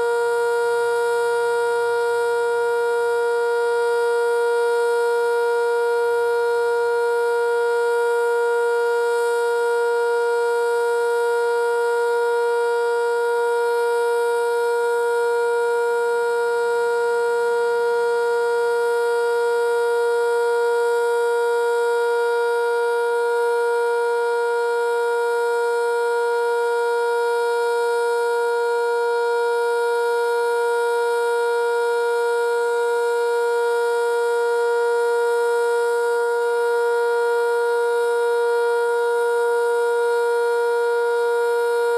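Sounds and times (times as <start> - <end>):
steady warning siren tone: 0.0 - 41.9.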